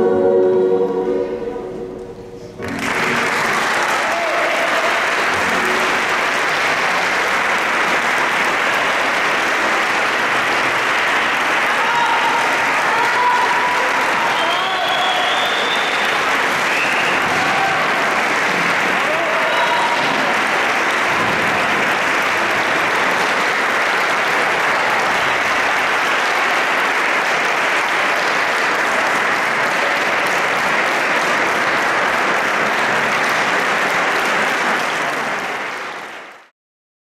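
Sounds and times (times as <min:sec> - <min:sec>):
audience applauding: 0:02.6 - 0:36.5.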